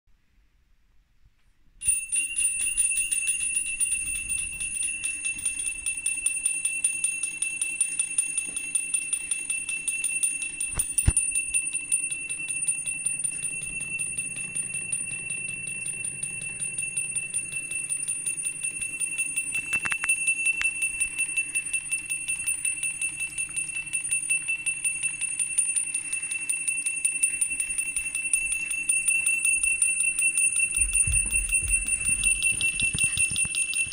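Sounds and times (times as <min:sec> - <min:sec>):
motor-driven bell ringing: 0:01.8 - 0:33.9.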